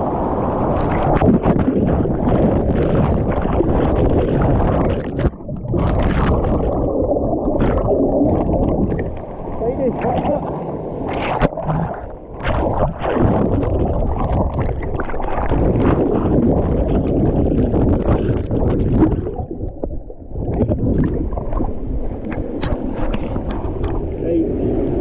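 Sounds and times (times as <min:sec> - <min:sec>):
water rushing and gurgling: 0:00.0 - 0:25.0.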